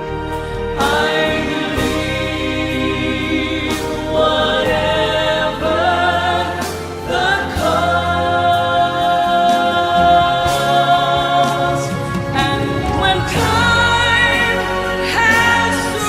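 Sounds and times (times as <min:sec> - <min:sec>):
gospel singing: 0:00.0 - 0:16.0
sustained instrumental and bass: 0:00.0 - 0:16.0.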